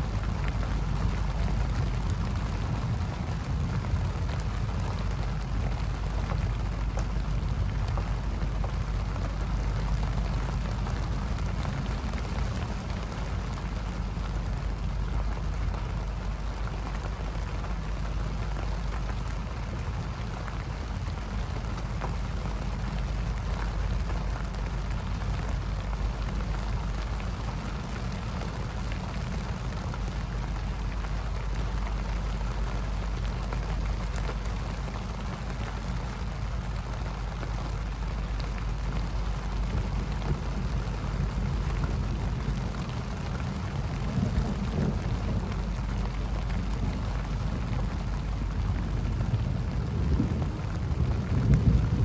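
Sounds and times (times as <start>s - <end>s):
steady rain: 0.0s - 52.0s.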